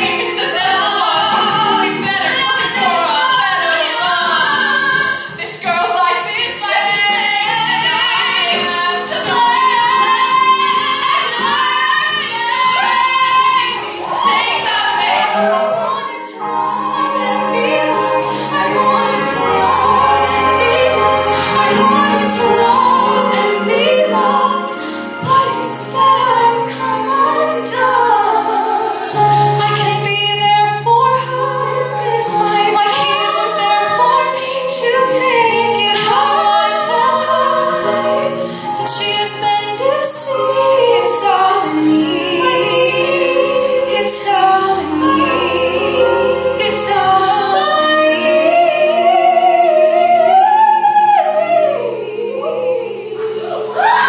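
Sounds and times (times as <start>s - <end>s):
two women singing a duet: 0.0s - 54.0s.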